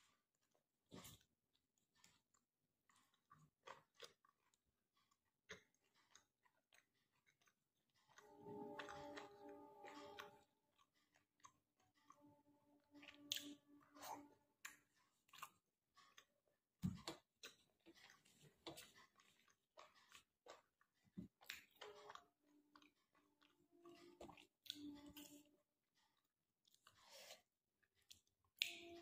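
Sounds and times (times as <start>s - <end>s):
chewing food: 0.0s - 29.0s.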